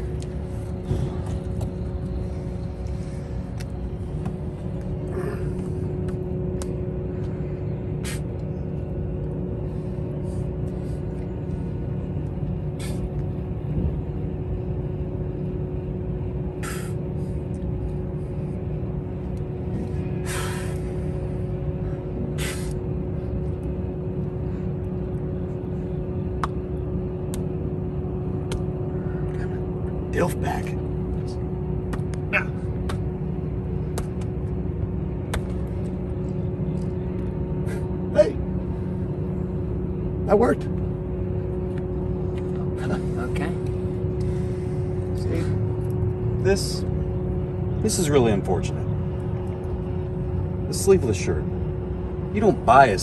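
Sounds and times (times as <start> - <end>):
low mechanical rumble with hum: 0.0 - 53.0.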